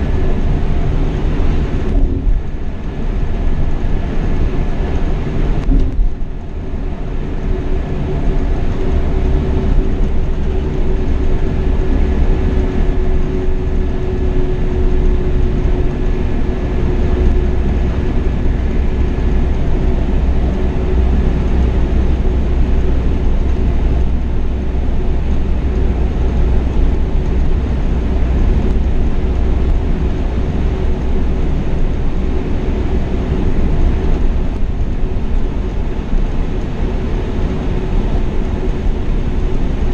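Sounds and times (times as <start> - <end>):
coach engine and tyre rumble: 0.0 - 39.9.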